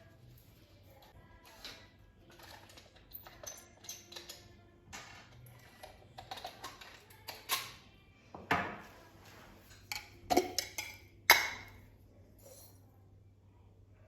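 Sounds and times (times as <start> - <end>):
dishes and utensils clinking: 0.9 - 12.9.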